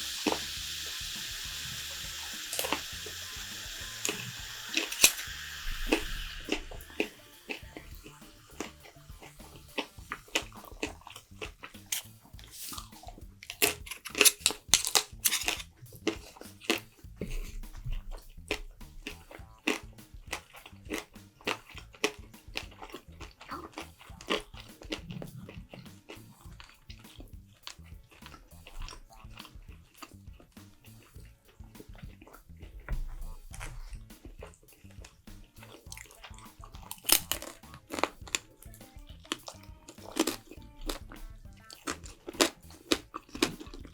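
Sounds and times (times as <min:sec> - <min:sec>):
person chewing and biting food: 0:00.0 - 0:43.9.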